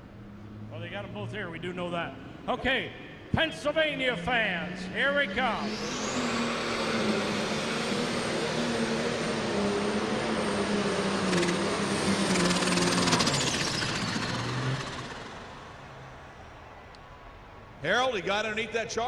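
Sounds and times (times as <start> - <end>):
high turbo whine: 0.0 - 17.8
diesel engine roaring: 0.0 - 19.0.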